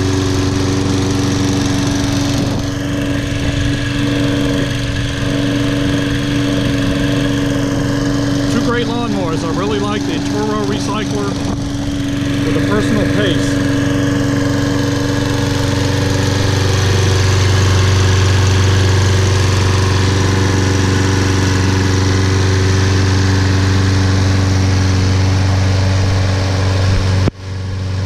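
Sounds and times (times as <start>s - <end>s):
lawn mower engine humming: 0.0s - 28.0s.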